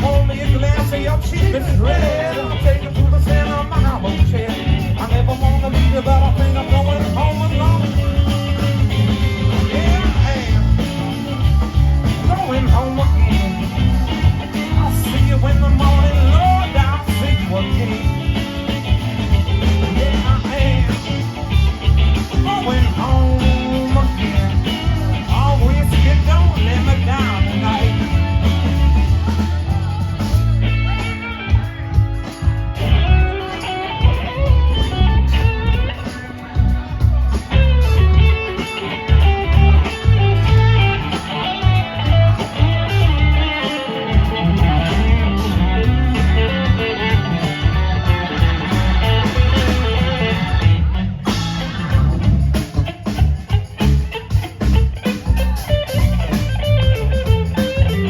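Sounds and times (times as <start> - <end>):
blues-rock band playing: 0.0 - 58.0
electric guitar: 0.0 - 58.0.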